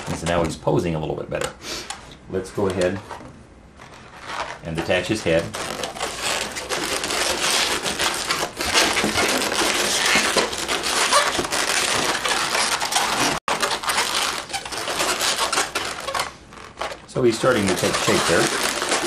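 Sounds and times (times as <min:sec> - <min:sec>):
balloons squeaking: 0:00.0 - 0:00.5, 0:03.8 - 0:19.0.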